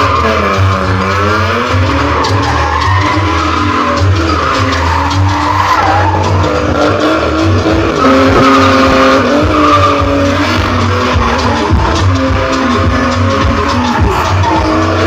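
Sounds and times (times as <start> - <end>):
car engine at high revs: 0.0 - 15.0
tyres squealing: 0.0 - 15.0.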